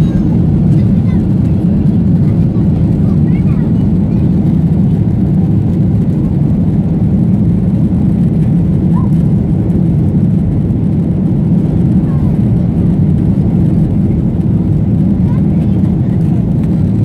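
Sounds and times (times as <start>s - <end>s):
jet airliner cabin noise: 0.0s - 17.0s.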